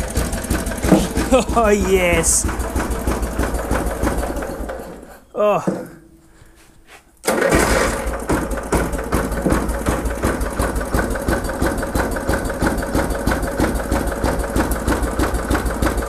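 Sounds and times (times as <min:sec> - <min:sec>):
lawnmower engine running: 0:00.0 - 0:06.1, 0:07.2 - 0:16.0.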